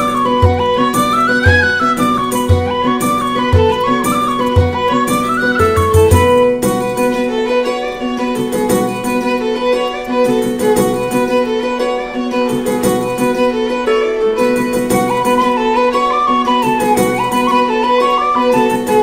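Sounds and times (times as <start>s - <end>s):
fiddle melody over a drone: 0.0s - 19.0s.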